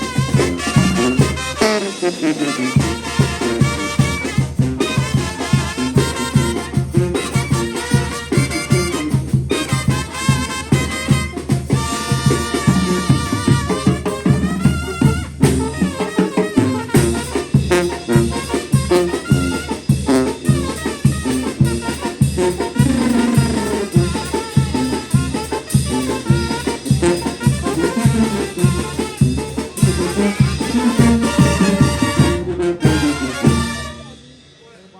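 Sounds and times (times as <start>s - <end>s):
trumpets playing melody: 0.0s - 34.4s
brass band playing: 0.0s - 34.7s
drums keeping a steady beat: 0.0s - 34.9s.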